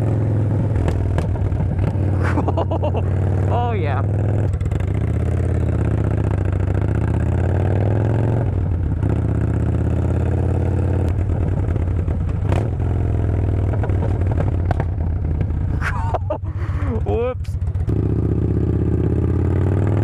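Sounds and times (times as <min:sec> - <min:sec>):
loud motorcycle engine running: 0:00.0 - 0:20.0.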